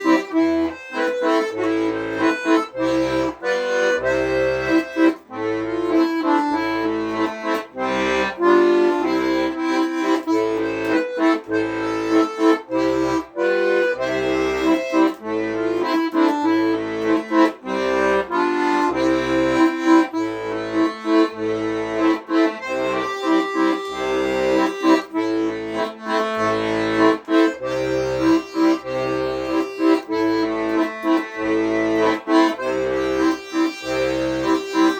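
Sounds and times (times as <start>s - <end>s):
solo accordion playing: 0.0s - 34.9s.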